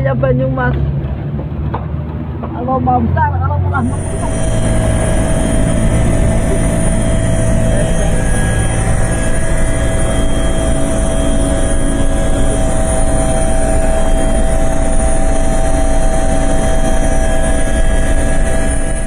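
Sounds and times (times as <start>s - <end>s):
helicopter engine and rotor: 2.2s - 19.0s.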